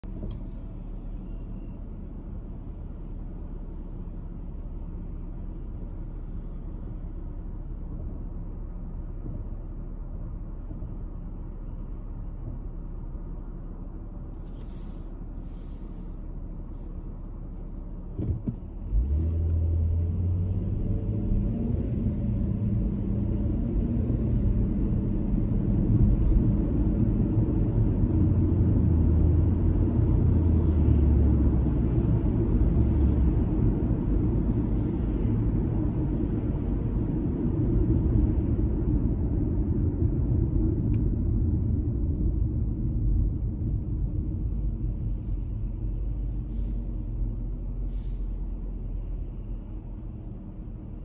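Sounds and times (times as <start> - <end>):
car road and engine rumble: 0.0 - 51.0
low engine hum: 0.0 - 51.0.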